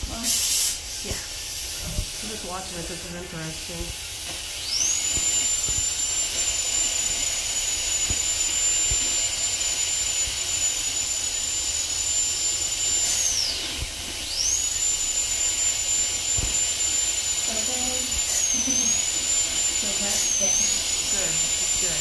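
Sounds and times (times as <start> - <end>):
dental drill whining: 0.0 - 22.0.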